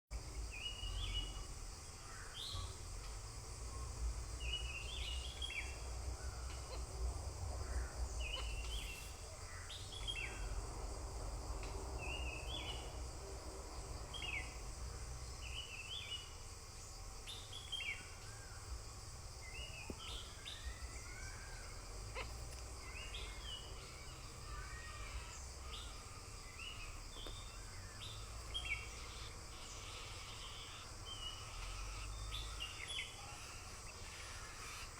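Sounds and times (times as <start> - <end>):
small birds chirping: 0.1 - 7.0, 7.6 - 11.0, 11.6 - 34.9
steady high hiss: 0.1 - 34.9.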